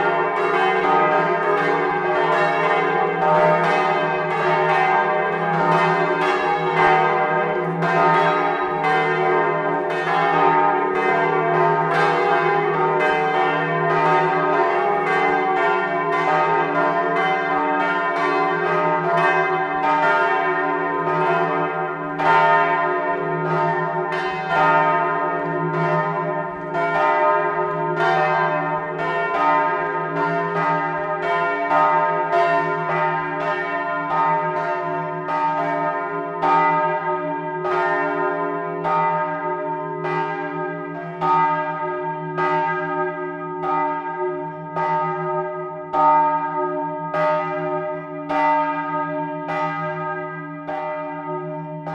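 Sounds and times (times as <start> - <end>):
church bells ringing in a peal: 0.0 - 51.9.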